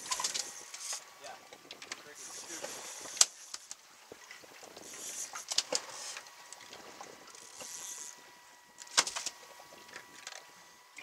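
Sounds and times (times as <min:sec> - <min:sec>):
fishing reels whirring: 0:00.0 - 0:11.0.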